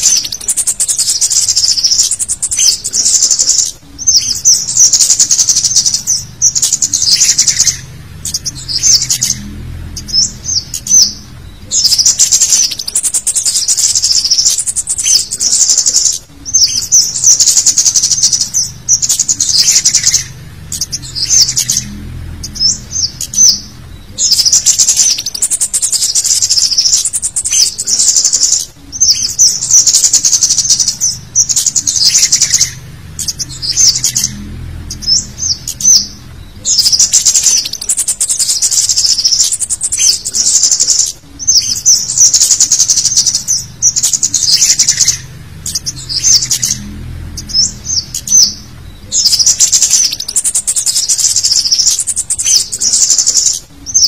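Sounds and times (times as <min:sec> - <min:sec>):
high-pitched bird chittering: 0:00.0 - 0:54.0.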